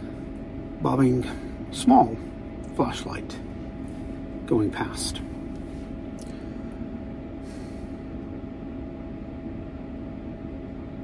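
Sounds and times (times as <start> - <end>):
small fan motor humming: 0.0 - 11.0.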